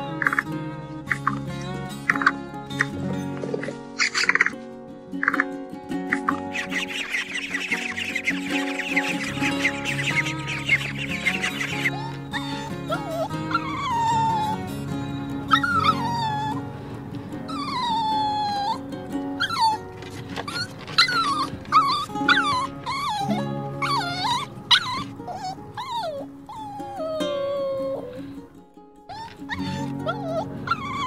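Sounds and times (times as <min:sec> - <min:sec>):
puppies whining and whimpering: 0:02.1 - 0:04.6, 0:06.1 - 0:28.4, 0:29.0 - 0:31.0.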